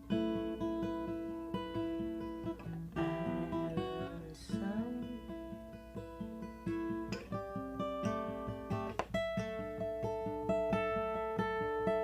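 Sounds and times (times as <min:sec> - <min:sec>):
guitar picking chords: 0:00.0 - 0:12.0.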